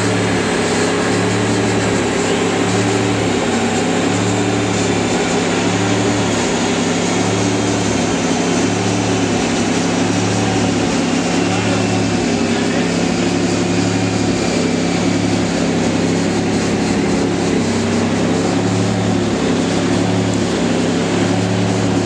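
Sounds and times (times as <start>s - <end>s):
car engine running steadily: 0.0s - 22.0s.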